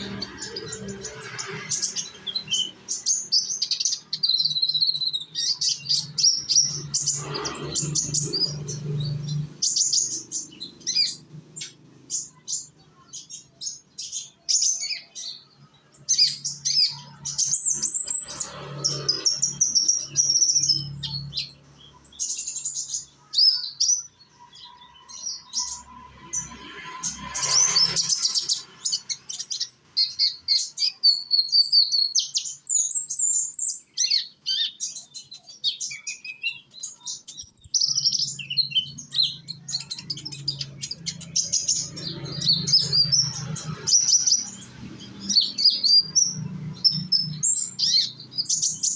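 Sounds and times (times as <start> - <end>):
songbird twittering song: 0.0 - 48.9.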